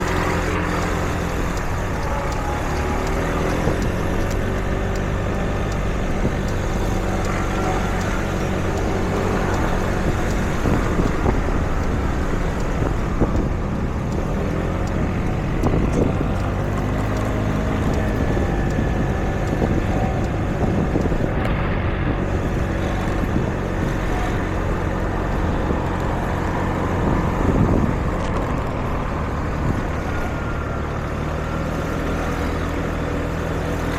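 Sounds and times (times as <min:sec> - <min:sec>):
vehicle engines passing: 0:00.0 - 0:33.9.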